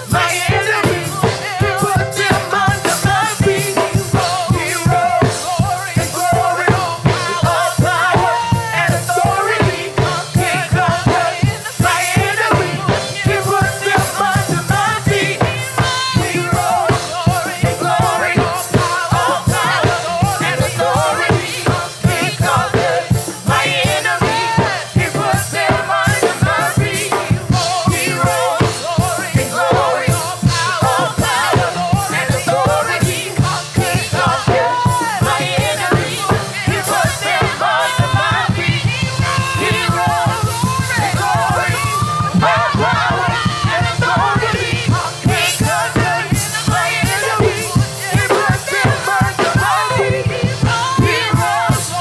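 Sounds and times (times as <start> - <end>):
band playing driving beat: 0.0 - 52.0
group of singers: 0.0 - 52.0.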